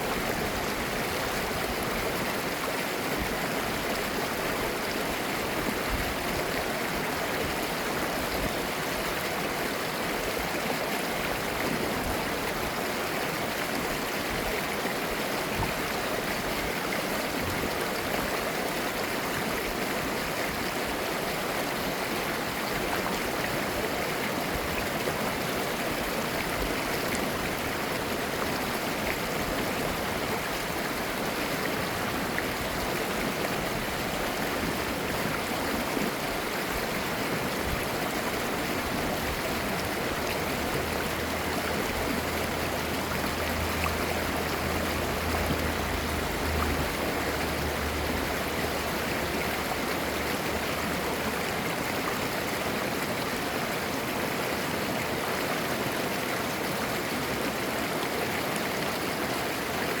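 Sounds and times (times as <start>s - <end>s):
stream babbling over rocks: 0.0s - 60.0s.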